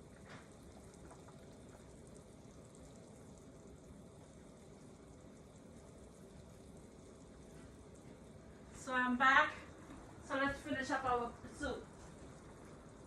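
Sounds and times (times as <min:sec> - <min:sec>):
pot of soup bubbling: 0:00.0 - 0:13.0.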